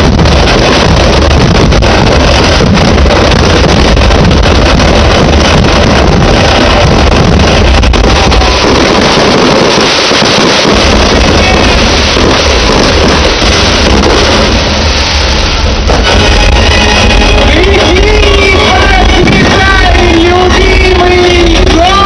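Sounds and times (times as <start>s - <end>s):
fireworks rumbling roar: 0.0s - 22.0s.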